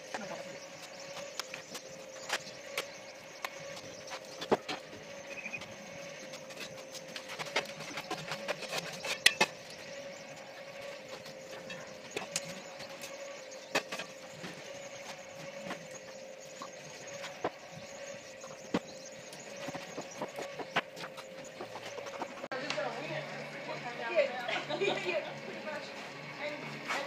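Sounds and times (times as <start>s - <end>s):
rotisserie motor humming: 0.0s - 27.0s.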